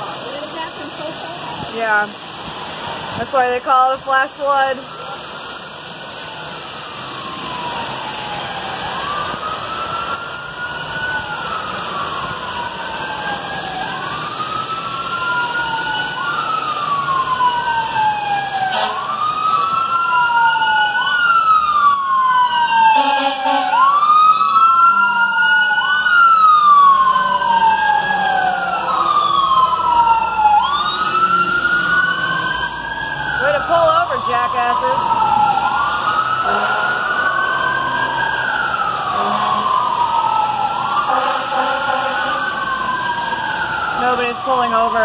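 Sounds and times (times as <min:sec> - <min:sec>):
fire truck sirens wailing: 0:00.0 - 0:45.0.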